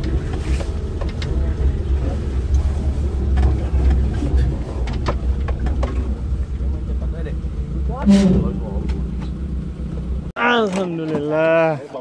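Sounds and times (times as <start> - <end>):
vehicle engine rumble: 0.0 - 10.4.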